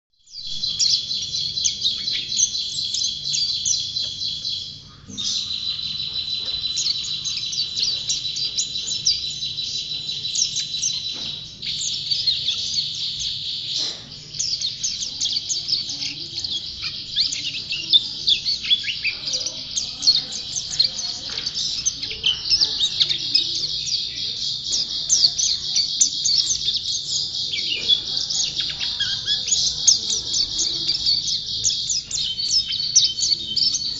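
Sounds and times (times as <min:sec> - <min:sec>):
songbird high twittering song: 0:00.2 - 0:33.9.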